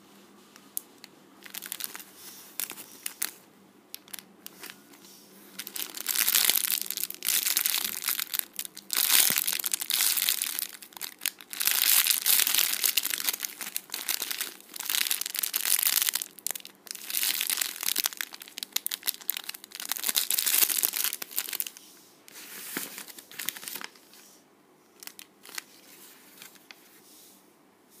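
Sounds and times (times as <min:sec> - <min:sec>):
plastic bag crinkling: 0:01.4 - 0:24.1, 0:25.0 - 0:26.7.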